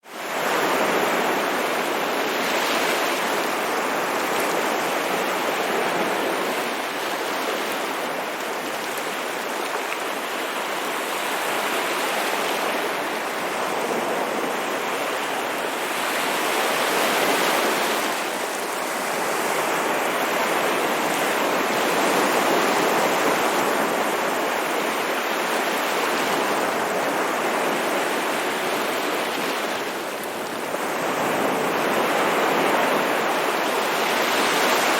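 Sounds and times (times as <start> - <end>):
sea waves breaking on shore: 0.0 - 34.9.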